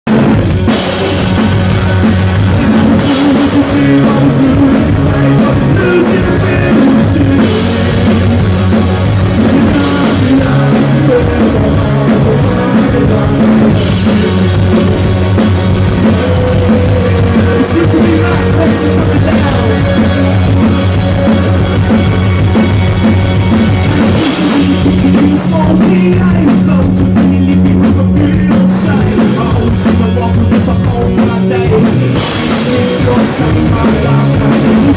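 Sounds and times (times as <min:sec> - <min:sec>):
live rock band playing: 0:00.0 - 0:34.9.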